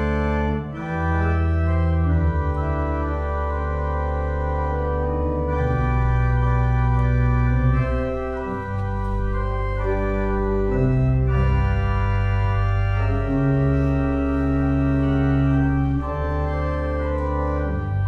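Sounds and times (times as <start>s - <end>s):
organ playing slow chords: 0.0s - 18.0s.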